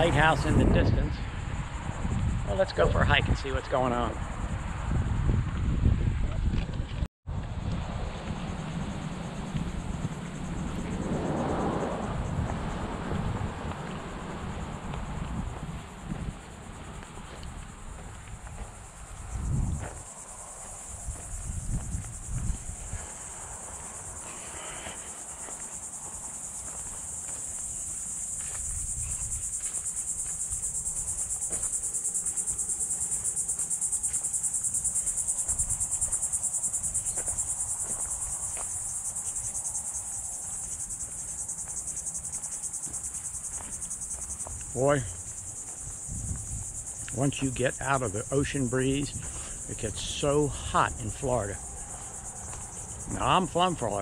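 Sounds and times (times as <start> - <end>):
insects buzzing: 0.0 - 6.0, 7.4 - 54.0.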